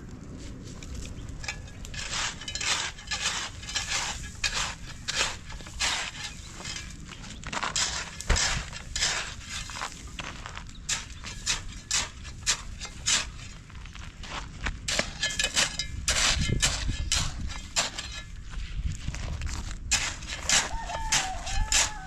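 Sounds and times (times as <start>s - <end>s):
shovel scraping through sand: 0.4s - 13.6s, 14.3s - 22.0s.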